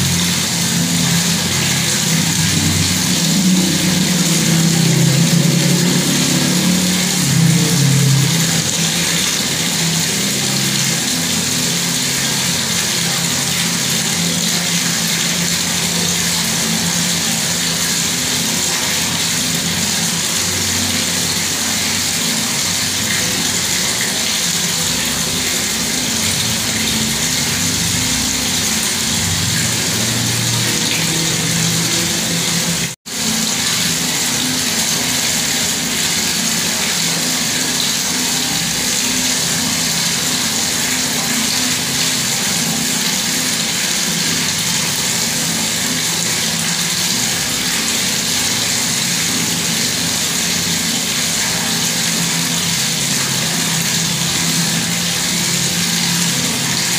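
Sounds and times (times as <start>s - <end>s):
water tap running: 0.0s - 56.9s.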